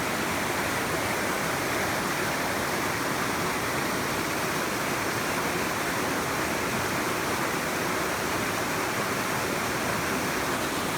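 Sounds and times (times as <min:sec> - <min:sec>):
stream water rushing: 0:00.0 - 0:10.9.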